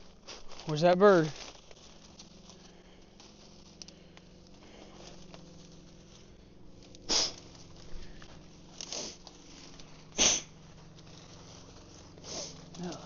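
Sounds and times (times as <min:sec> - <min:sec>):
dry grass and brush rustling: 0:00.0 - 0:13.0.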